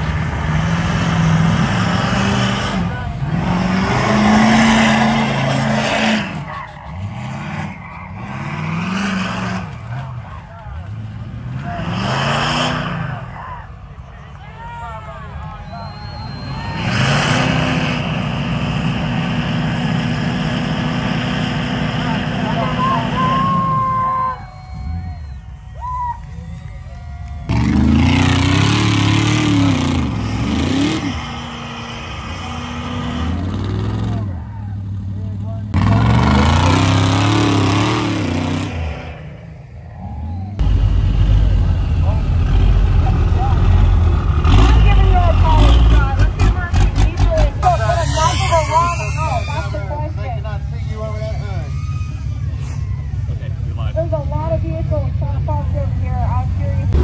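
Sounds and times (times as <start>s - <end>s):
pickup truck engine revving: 0.0s - 13.4s, 15.9s - 25.7s, 26.6s - 55.6s.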